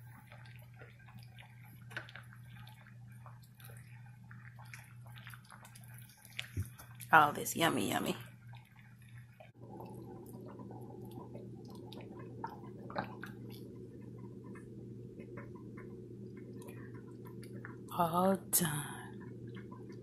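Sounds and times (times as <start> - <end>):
soup bubbling: 0.0 - 7.2, 8.2 - 18.0, 19.0 - 20.0
gas stove hum: 0.0 - 20.0.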